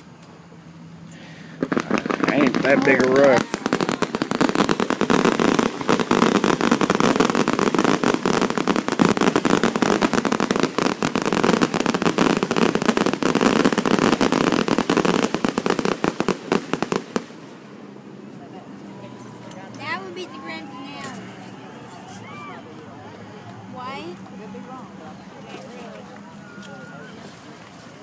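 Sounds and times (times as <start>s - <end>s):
fireworks cracking and banging: 1.1s - 28.0s.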